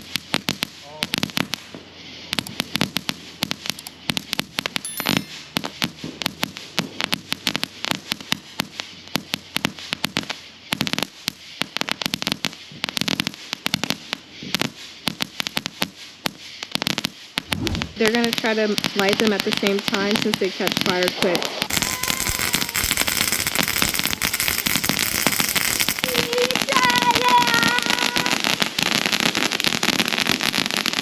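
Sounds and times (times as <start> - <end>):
firecrackers banging: 0.0 - 31.0.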